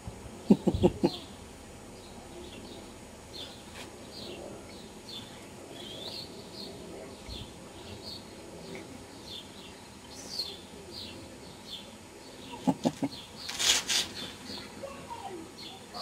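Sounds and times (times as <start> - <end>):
garden birds chirping: 0.0 - 16.0.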